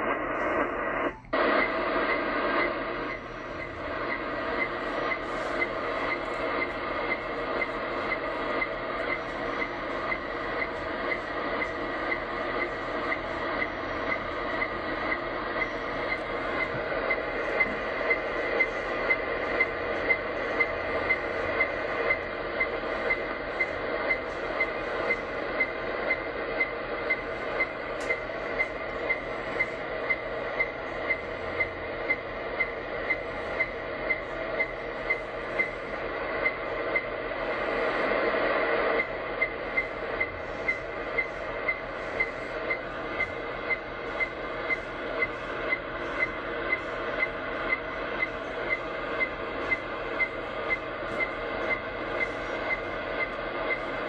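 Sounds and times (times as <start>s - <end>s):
radio hiss: 0.0s - 54.0s.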